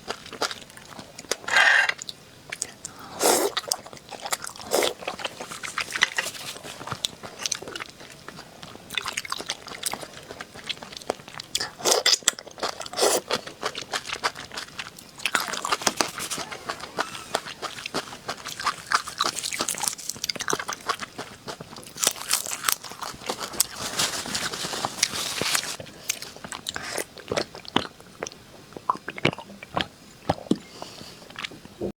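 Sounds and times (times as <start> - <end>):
crunching and chewing: 0.0 - 31.6.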